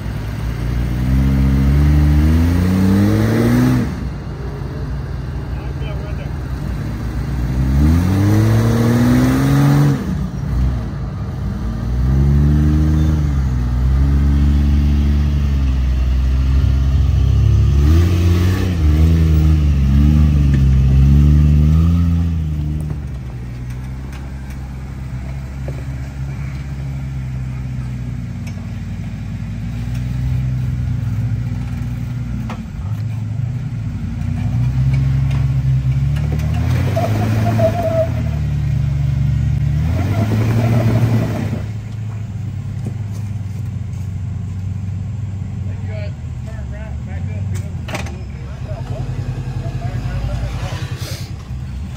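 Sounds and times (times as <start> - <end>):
engine climbing steadily: 0.0 - 51.9
off-road engine revving: 0.0 - 51.9.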